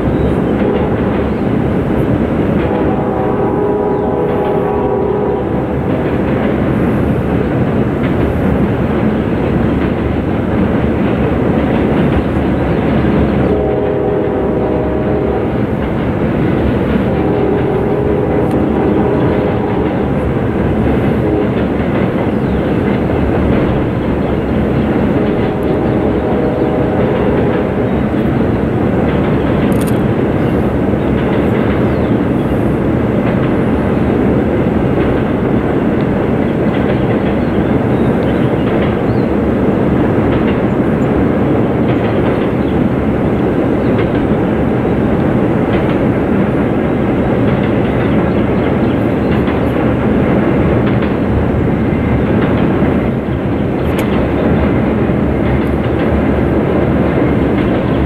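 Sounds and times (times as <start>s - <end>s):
freight train rumbling across bridge: 0.0s - 58.0s.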